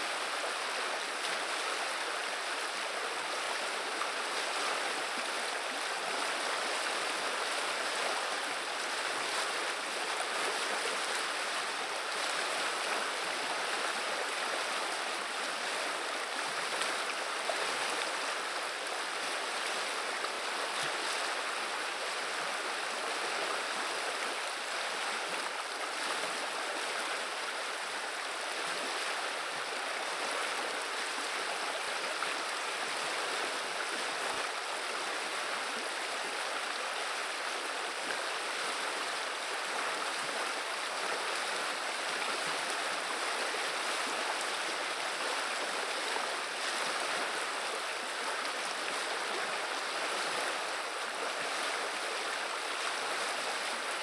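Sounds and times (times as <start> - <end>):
river water gurgling: 0.0 - 54.0.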